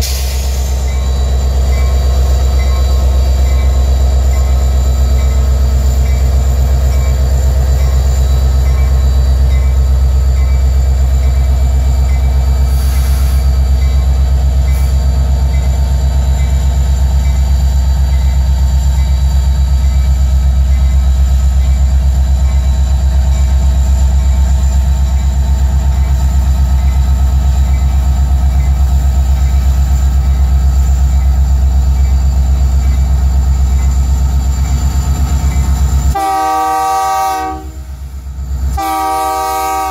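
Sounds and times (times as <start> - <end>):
diesel locomotives passing: 0.0 - 39.9.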